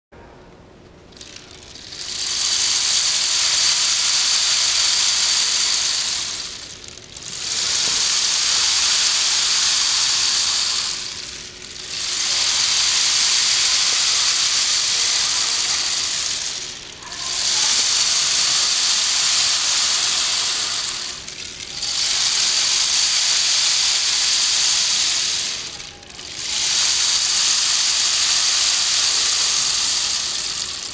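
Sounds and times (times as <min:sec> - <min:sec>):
rain stick pouring: 0:01.1 - 0:30.9.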